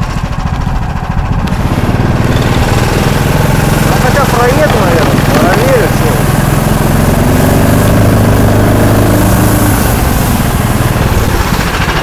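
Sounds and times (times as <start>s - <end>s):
small engine running under throttle: 0.0s - 12.0s.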